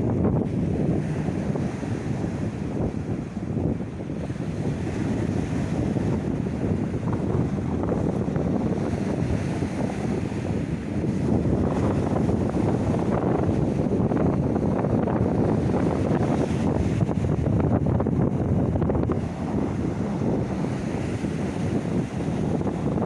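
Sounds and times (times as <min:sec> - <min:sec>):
sea waves washing in: 0:00.0 - 0:23.0
wind buffeting microphone: 0:00.0 - 0:23.0.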